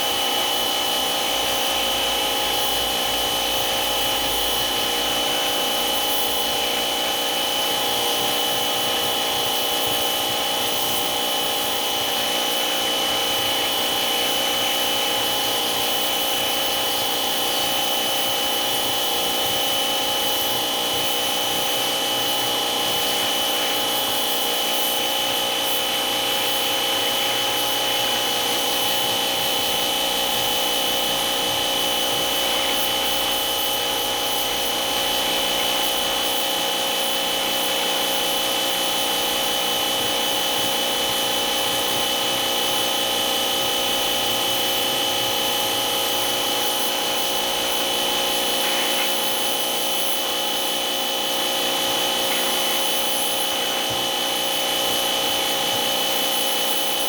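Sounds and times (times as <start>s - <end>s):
machine running with high whine: 0.0s - 57.0s.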